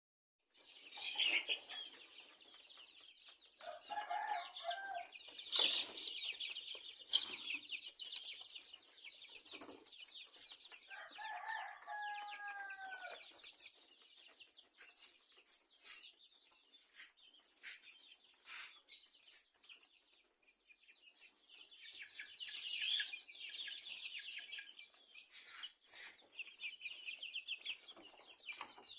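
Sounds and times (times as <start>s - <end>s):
chicks peeping and chirping: 0.5s - 28.9s
chicken calls: 0.6s - 28.9s.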